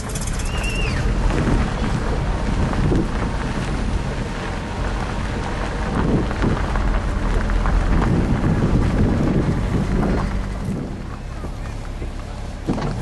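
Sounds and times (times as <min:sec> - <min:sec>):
vehicle engine rumble: 0:00.0 - 0:13.0
wind buffeting microphone: 0:00.0 - 0:13.0.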